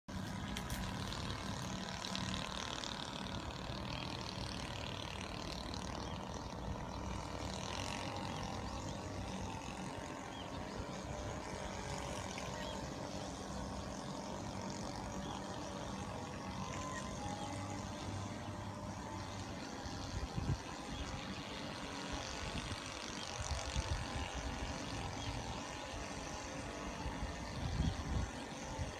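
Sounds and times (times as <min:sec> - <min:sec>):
engine running steadily: 0:00.1 - 0:28.9.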